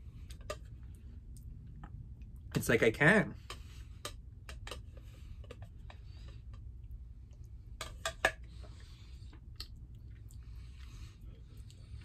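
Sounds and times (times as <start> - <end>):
quiet eating sounds: 0.0 - 2.5, 3.3 - 12.0.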